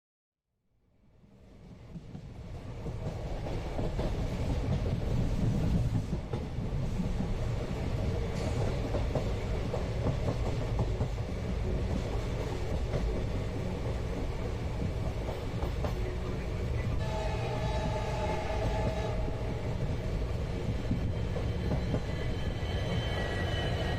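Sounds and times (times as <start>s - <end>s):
train rumble inside coach: 1.3s - 23.9s.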